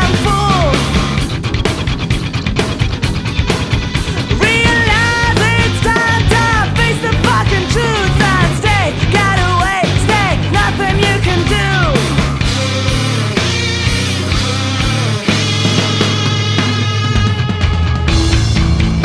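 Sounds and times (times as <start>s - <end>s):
bass guitar: 0.0s - 19.0s
distorted guitar: 0.0s - 19.0s
drums: 0.0s - 19.0s
high melodic guitar line: 0.0s - 19.0s.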